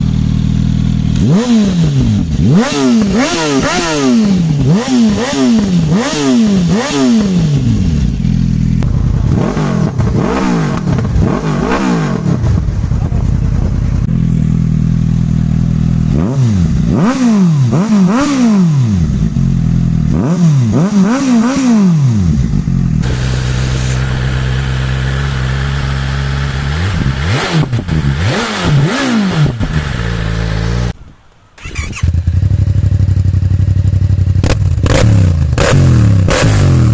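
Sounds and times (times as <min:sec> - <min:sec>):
motorcycle engine revving and idling: 0:00.0 - 0:31.0, 0:31.6 - 0:36.9.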